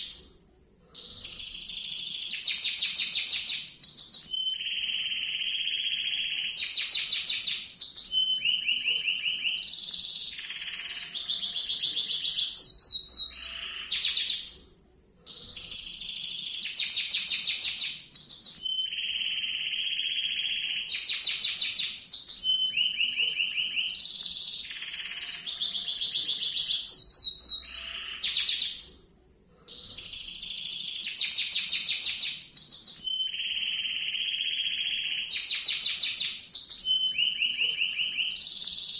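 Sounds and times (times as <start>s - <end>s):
canary singing trills: 1.0s - 14.6s, 15.3s - 28.9s, 29.7s - 38.9s.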